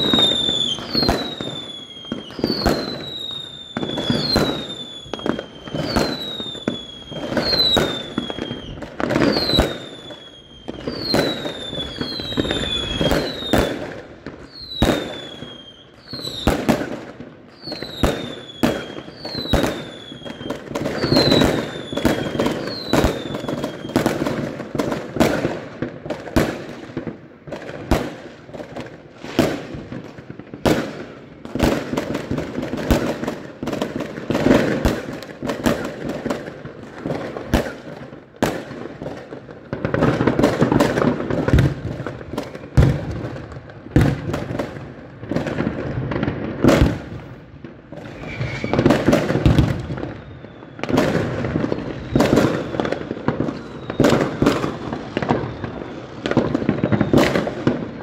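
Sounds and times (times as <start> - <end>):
falling firework whistles: 0.0 - 44.6, 45.3 - 58.0
firework bangs and crackles: 0.0 - 58.0.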